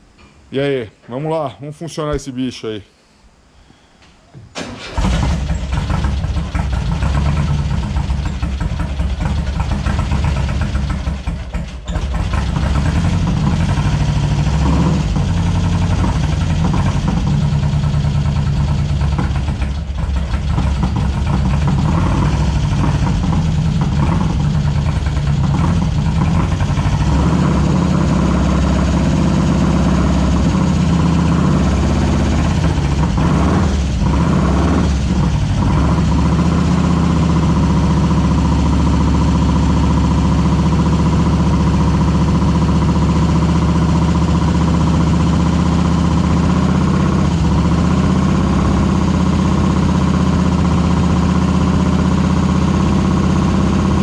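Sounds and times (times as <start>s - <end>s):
air-cooled engine idling: 4.6s - 54.0s.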